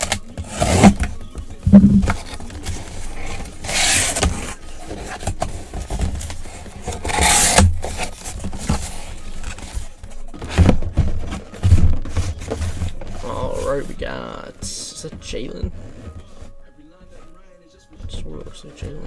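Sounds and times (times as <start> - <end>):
cardboard flaps scraping: 0.0 - 16.6
plastic cases shifting: 0.0 - 17.4.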